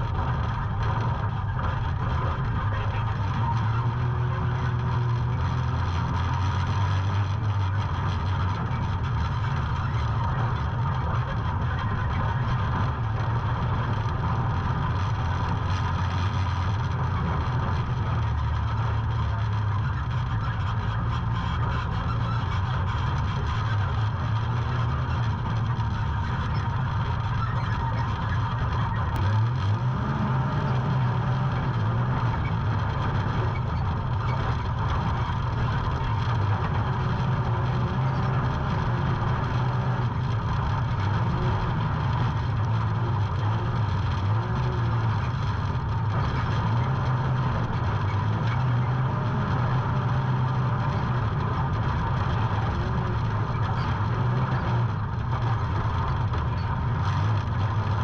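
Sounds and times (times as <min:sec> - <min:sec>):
engine droning: 0:00.0 - 0:58.0.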